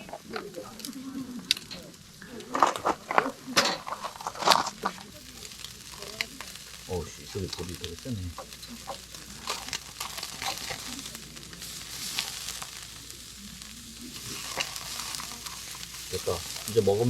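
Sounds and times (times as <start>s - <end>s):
beef sizzling on a grill: 0.0s - 17.0s
fire pops and crackles: 0.0s - 17.0s.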